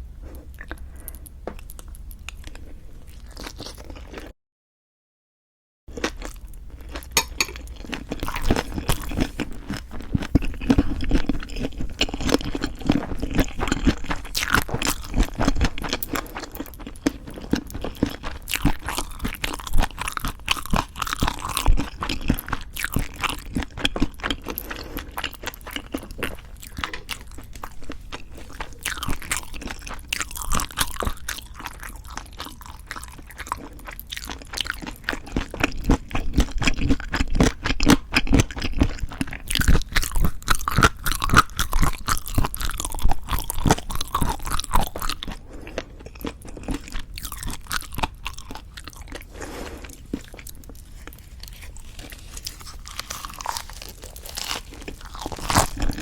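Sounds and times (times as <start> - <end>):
crunchy wet chewing: 0.3 - 4.3, 5.9 - 56.0.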